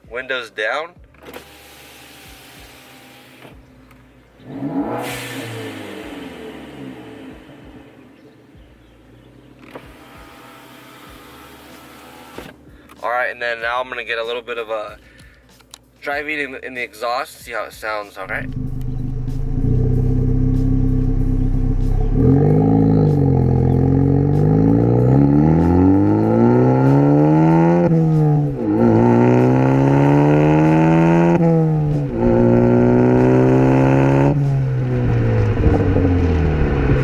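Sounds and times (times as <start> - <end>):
car engine accelerating through gears: 1.4 - 12.6, 18.2 - 37.0.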